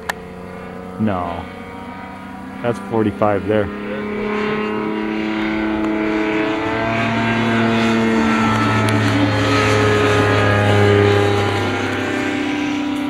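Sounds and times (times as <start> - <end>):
deeper hum: 0.0 - 13.0
light airplane engine droning: 0.0 - 13.0.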